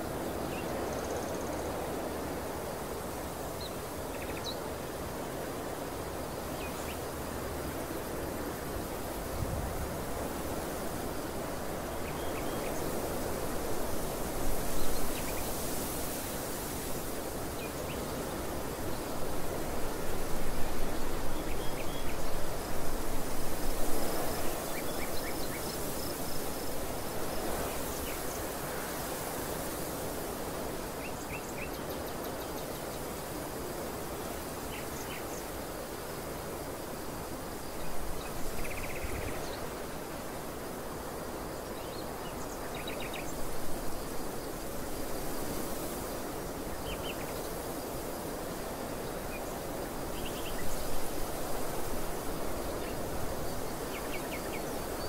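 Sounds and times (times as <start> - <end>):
wind gusts: 0.0 - 55.0.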